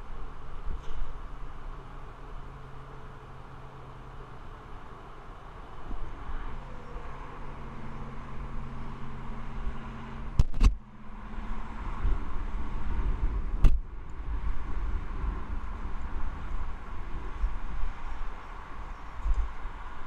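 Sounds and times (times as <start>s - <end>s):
highway traffic hiss: 0.0s - 20.0s
wind rumbling on microphone: 0.0s - 20.0s.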